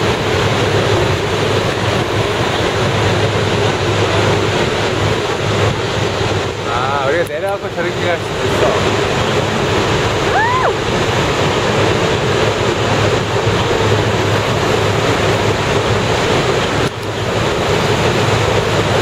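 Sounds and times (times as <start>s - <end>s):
river churning: 0.0s - 19.0s
waterfall roaring: 0.0s - 19.0s
wind buffeting microphone: 0.0s - 19.0s.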